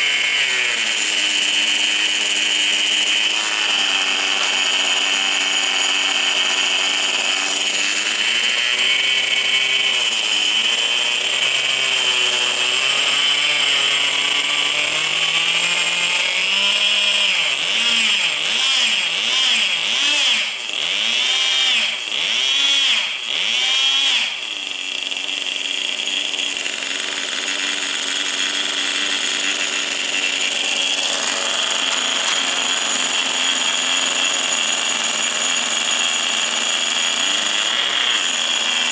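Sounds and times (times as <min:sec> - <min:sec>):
rc car nitro engine buzzing: 0:00.0 - 0:38.9.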